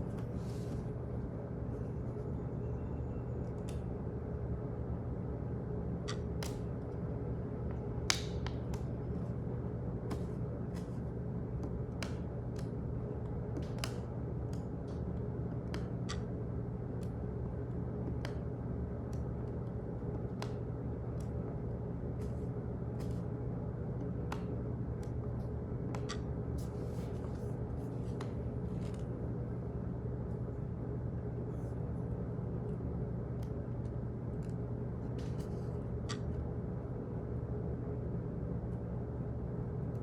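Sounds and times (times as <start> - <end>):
low office hum: 0.0 - 40.0.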